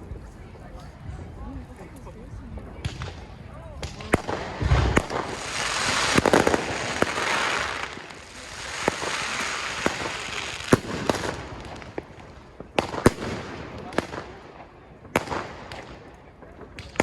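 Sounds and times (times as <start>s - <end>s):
fireworks crackling: 2.7s - 17.0s
fireworks bangs: 2.8s - 17.0s.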